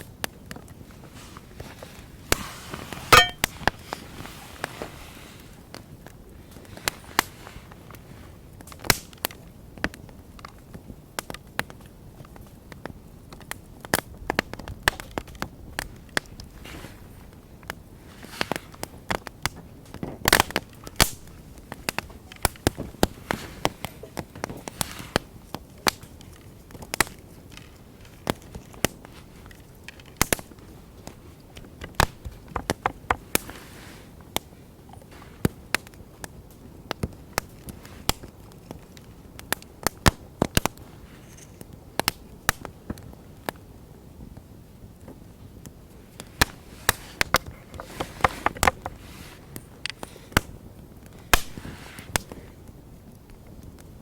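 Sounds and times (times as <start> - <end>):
sharp pops of burning wood: 0.0 - 4.8, 5.6 - 16.7, 17.3 - 54.0
campfire crackling: 0.0 - 54.0
low steady fire hiss: 0.0 - 54.0.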